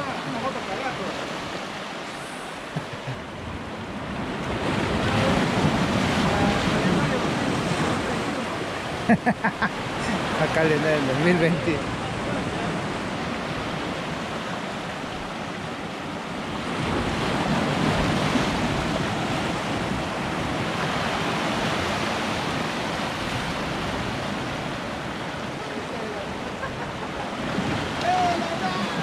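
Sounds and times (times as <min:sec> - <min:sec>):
ocean surf breaking on shore: 0:00.0 - 0:29.0.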